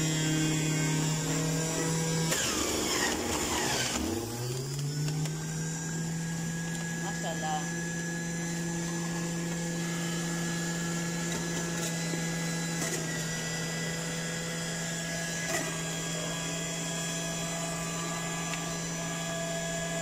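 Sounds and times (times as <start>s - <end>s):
electric juicer motor humming: 0.0s - 20.0s.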